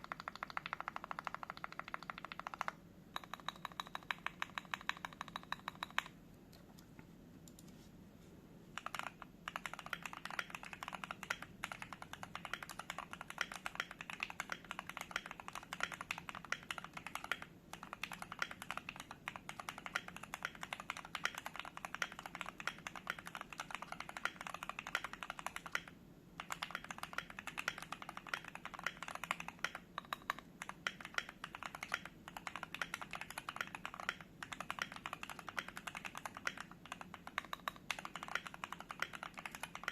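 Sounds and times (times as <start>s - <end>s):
mechanical keyboard typing: 0.0s - 6.2s, 8.8s - 39.9s.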